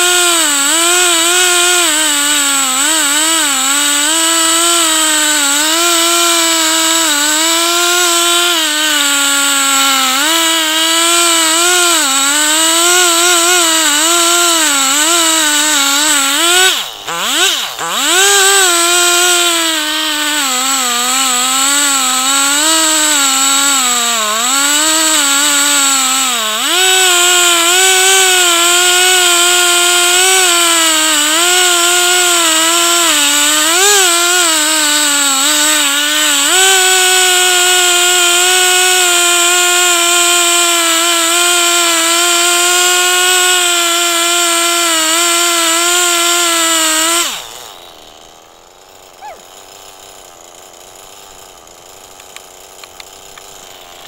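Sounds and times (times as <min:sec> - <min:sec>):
chainsaw cutting through log: 0:00.0 - 0:54.0.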